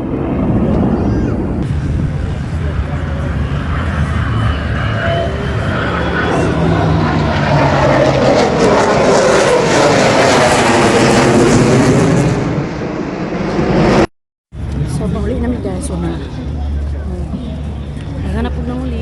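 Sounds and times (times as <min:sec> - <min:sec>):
airplane flying past: 0:00.0 - 0:19.0.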